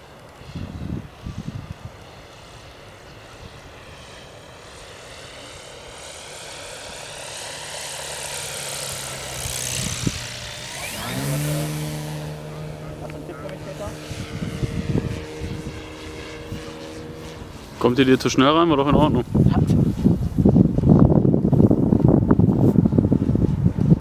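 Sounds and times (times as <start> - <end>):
model airplane propeller whine: 0.0 - 24.0.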